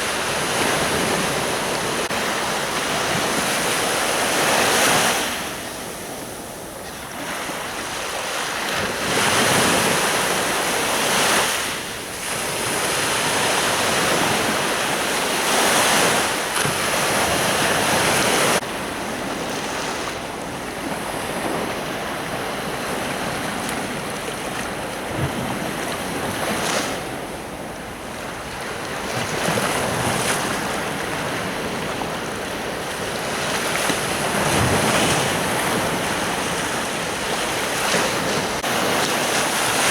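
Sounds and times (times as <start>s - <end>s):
surf breaking on a beach: 0.0s - 27.4s, 28.2s - 39.9s.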